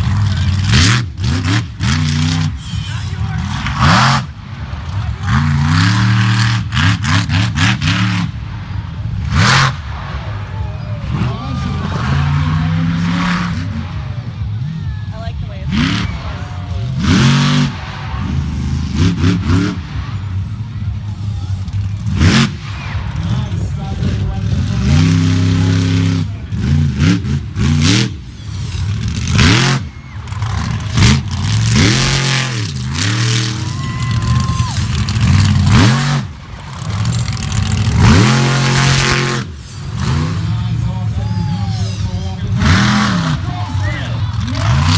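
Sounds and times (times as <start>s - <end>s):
monster truck engine revving: 0.0s - 44.9s.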